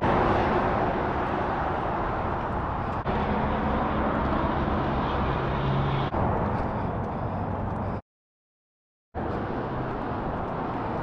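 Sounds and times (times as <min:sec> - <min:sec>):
highway traffic: 0:00.0 - 0:08.1, 0:09.2 - 0:11.0.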